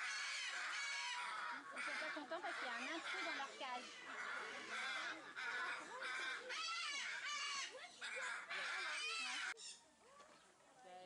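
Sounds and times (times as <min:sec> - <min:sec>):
macaws screeching: 0:00.0 - 0:09.8.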